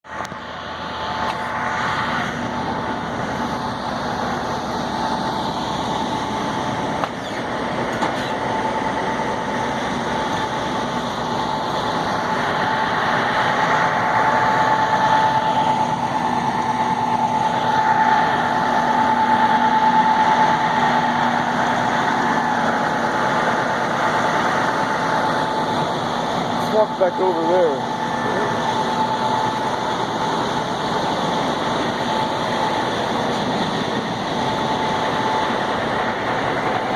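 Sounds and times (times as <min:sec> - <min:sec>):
held whine: 0:00.0 - 0:36.9
truck engine and rolling noise: 0:00.0 - 0:36.9.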